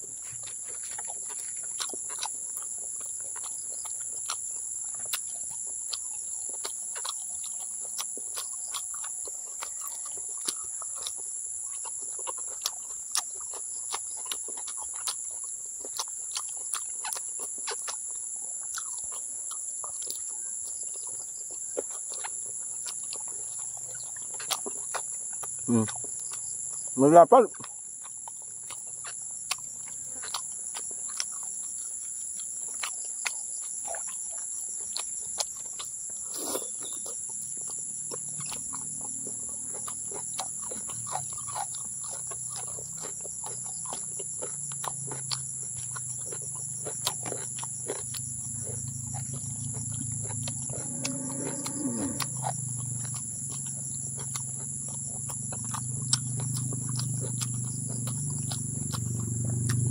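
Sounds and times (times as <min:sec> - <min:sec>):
crunchy chewing: 0:00.0 - 0:59.9
insects trilling: 0:00.0 - 0:59.9.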